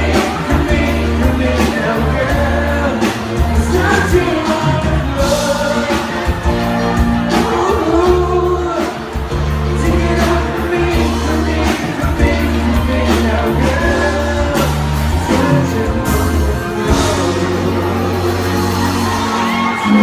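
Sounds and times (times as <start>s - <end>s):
live band playing: 0.0s - 20.0s
person singing: 0.0s - 20.0s
steady bass line: 0.0s - 20.0s.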